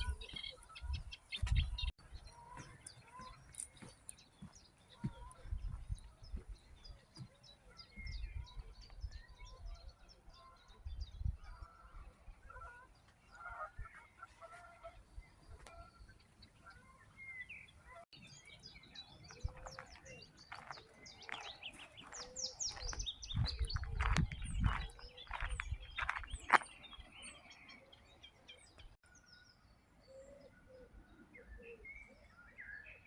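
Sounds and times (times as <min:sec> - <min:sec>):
wild birds chirping and calling: 0:00.0 - 0:33.0.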